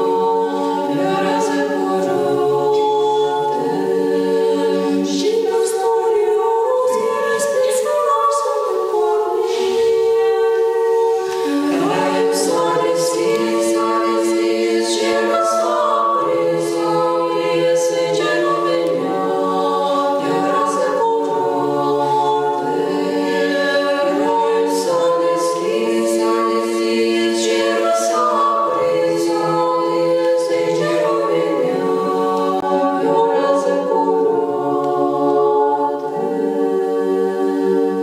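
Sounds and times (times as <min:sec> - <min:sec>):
women's choir singing a cappella: 0:00.0 - 0:38.0.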